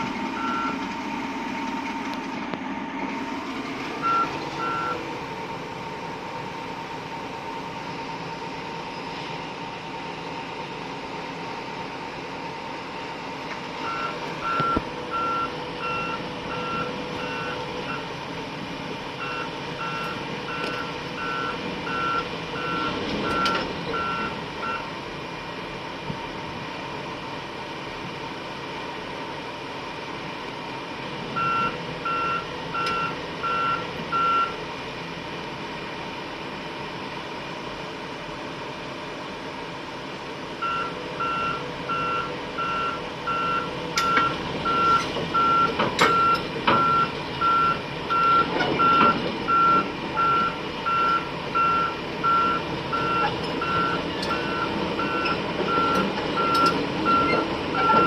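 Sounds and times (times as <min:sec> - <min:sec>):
excavator engine and hydraulics whining: 0:00.0 - 0:58.0.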